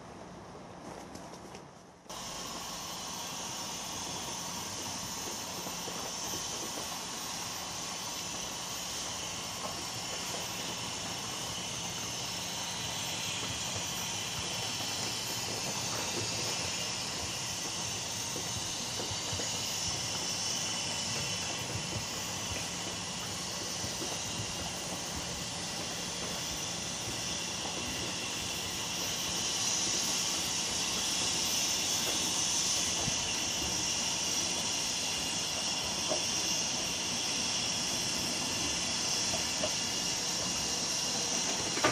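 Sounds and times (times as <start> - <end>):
steam locomotive hissing: 2.0 - 41.9.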